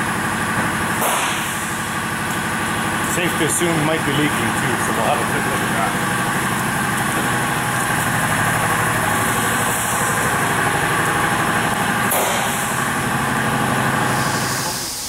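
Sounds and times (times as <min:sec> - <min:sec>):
diesel truck engine idling: 0:00.0 - 0:14.8.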